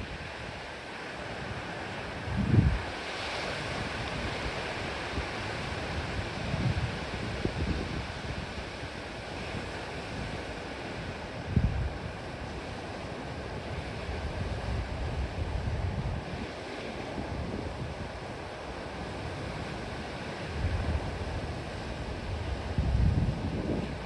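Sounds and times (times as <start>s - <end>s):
ocean surf: 0.0s - 24.0s
wind buffeting microphone: 2.2s - 12.7s, 13.7s - 24.0s.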